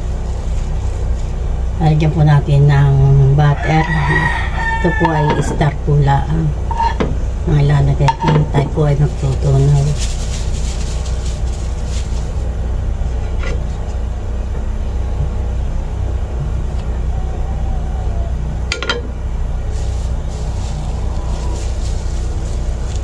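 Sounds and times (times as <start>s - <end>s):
gas burner rumble: 0.0s - 23.0s.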